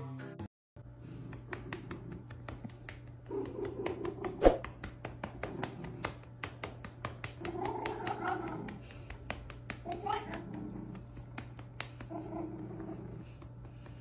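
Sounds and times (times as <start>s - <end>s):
hand patting a cat: 1.1s - 14.0s
hand slap on fur: 1.1s - 14.0s.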